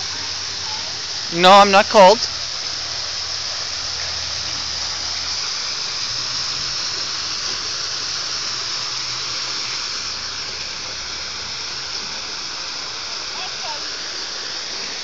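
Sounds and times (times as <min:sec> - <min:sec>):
waterfall rushing hiss: 0:00.0 - 0:15.0.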